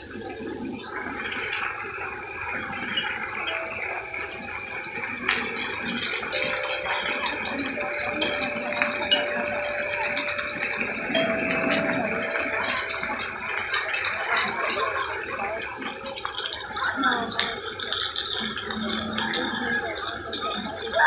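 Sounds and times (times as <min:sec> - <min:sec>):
water running and splashing: 0:00.0 - 0:21.0
distant children's voices: 0:01.4 - 0:21.0.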